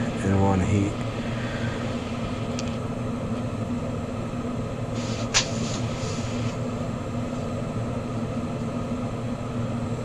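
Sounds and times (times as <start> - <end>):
torch burning: 0.0 - 3.0, 4.8 - 9.9
low hum: 0.0 - 10.0.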